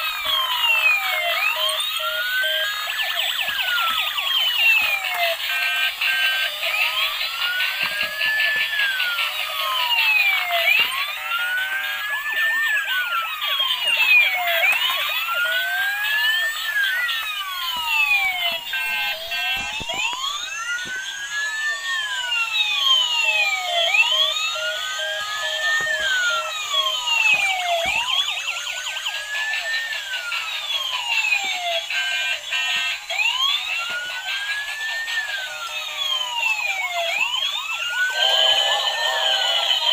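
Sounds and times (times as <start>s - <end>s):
fast high siren sweeps: 0.0s - 39.9s
slow wailing toy siren: 0.0s - 39.9s.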